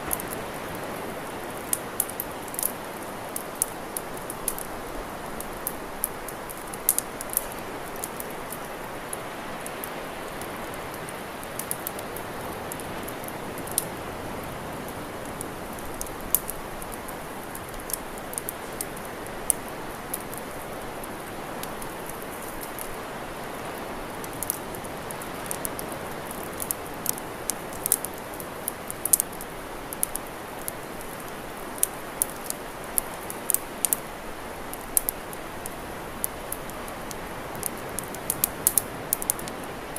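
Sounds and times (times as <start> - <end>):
campfire crackling and popping: 0.0 - 39.9
rushing hiss of fire: 0.0 - 39.9.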